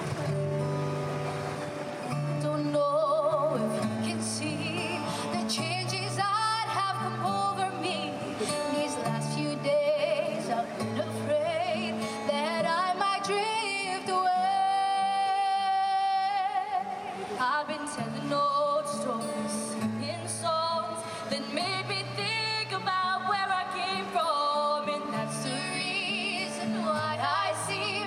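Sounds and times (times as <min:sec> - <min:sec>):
woman singing slow song: 0:02.1 - 0:28.0.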